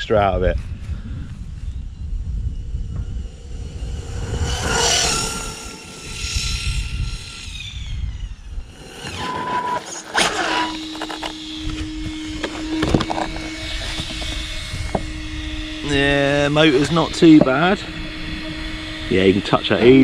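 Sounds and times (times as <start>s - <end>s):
wind rumble on microphone: 0.0s - 9.3s, 11.4s - 20.0s
steady low hum: 0.0s - 20.0s
rc car motor whine: 0.4s - 20.0s.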